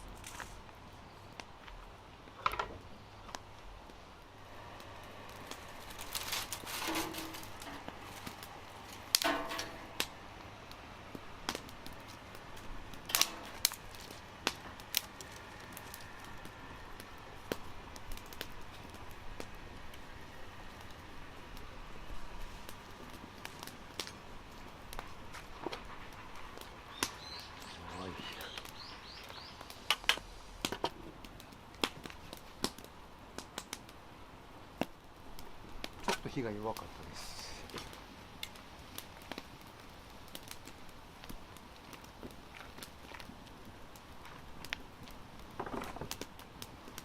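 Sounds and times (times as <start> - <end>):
dry wood cracking and snapping: 0.0 - 47.0.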